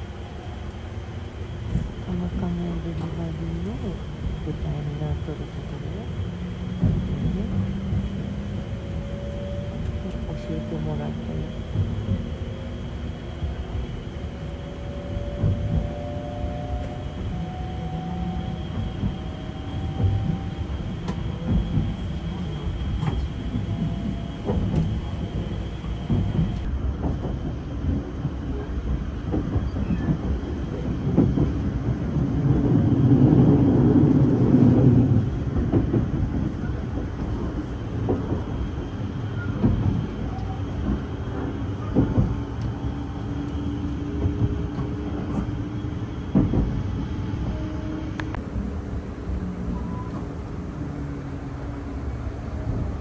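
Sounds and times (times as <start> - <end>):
train wheel and rail rumble: 0.0 - 53.0
rail joint clicks: 0.2 - 53.0.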